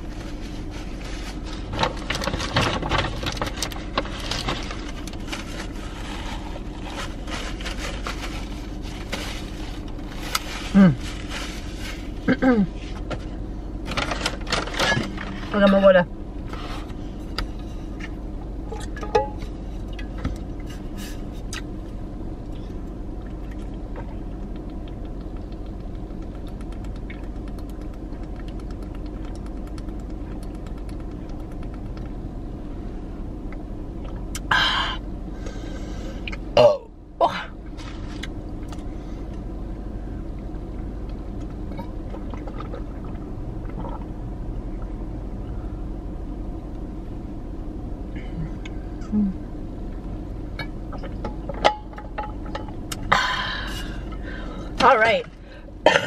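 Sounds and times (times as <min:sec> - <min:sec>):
car idling hum: 0:00.0 - 0:56.0.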